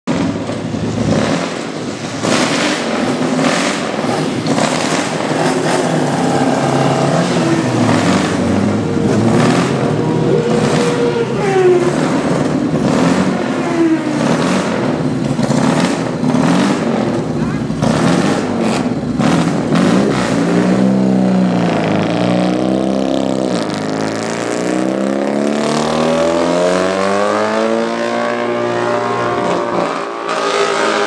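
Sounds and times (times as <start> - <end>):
racing engines revving: 0.1 - 31.0.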